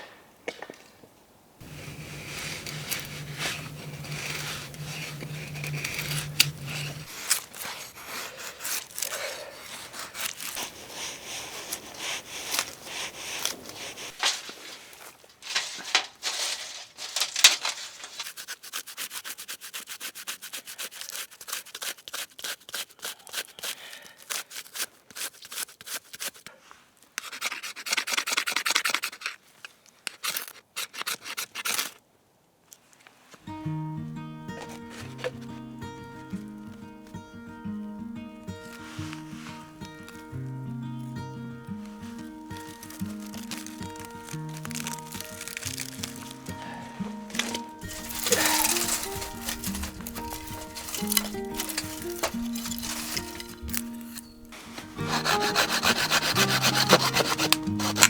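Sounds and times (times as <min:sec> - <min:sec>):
rubbing and scraping strokes: 0:01.6 - 0:26.5, 0:27.2 - 0:32.0, 0:38.6 - 0:40.4, 0:41.7 - 0:58.0.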